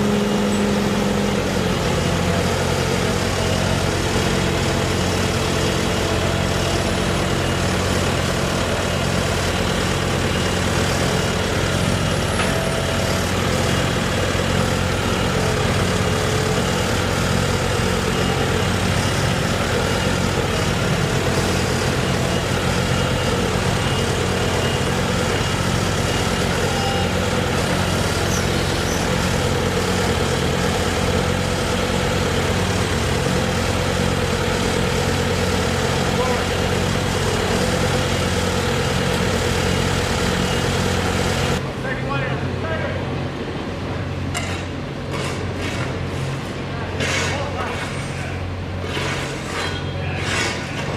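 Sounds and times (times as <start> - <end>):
heavy engine idling: 0.0 - 50.9.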